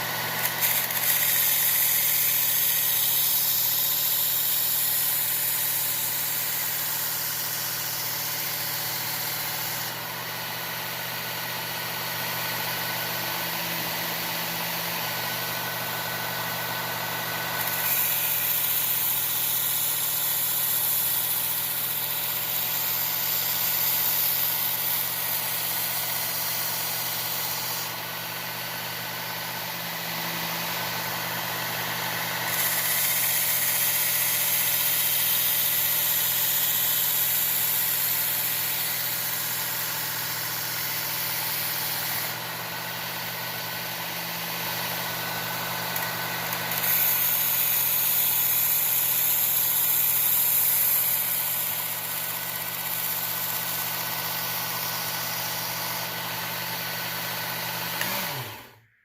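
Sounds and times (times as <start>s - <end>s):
knife grinding on abrasive belt: 0.0s - 10.0s, 13.8s - 28.2s, 30.0s - 58.8s
belt sharpener motor running: 0.0s - 59.0s.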